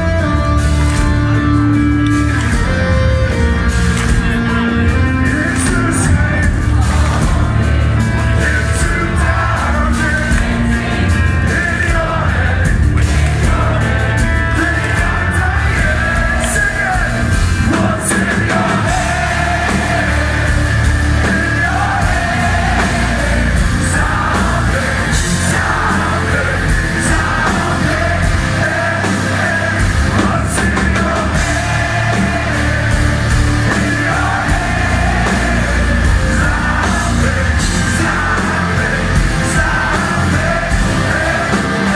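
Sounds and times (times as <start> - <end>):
bass: 0.0 - 41.9
distorted electric guitars: 0.0 - 41.9
drums: 0.0 - 41.9.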